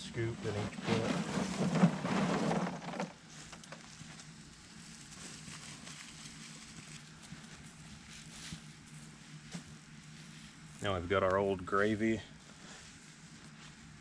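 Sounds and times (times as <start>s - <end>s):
soft footsteps: 0.5s - 11.5s, 12.4s - 14.0s.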